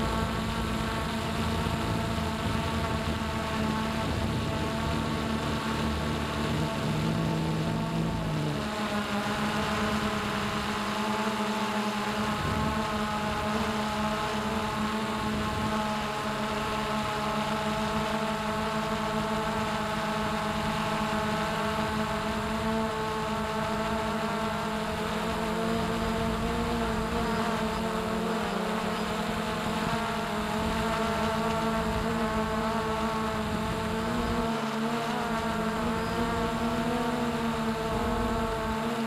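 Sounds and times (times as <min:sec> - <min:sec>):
drone propellers whining: 0:00.0 - 0:39.0.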